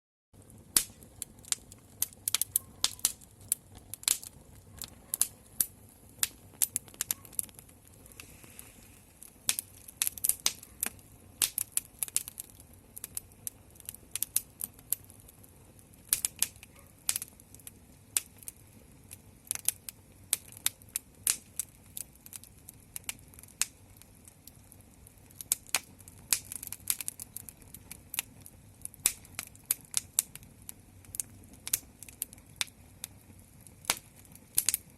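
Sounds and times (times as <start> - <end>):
wood fire crackling: 0.4 - 34.9.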